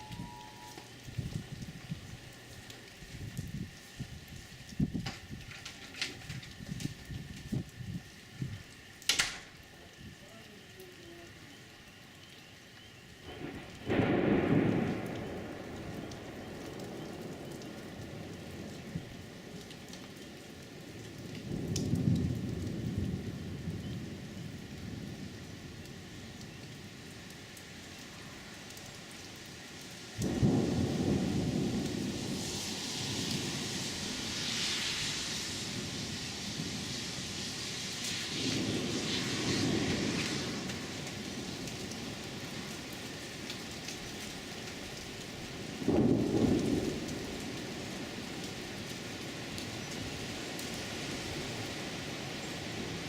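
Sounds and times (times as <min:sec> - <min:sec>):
thunder rumbling: 0:00.0 - 0:08.7, 0:13.2 - 0:27.1, 0:30.2 - 0:53.0
drips and splashes: 0:00.0 - 0:53.0
rain falling: 0:00.0 - 0:53.0.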